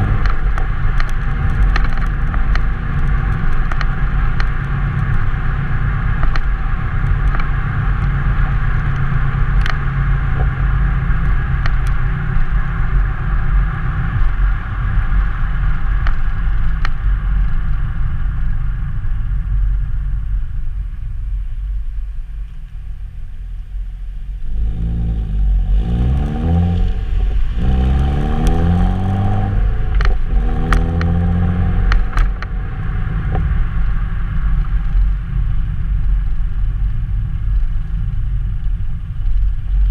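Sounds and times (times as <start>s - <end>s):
car exhaust droning: 0.0s - 39.9s.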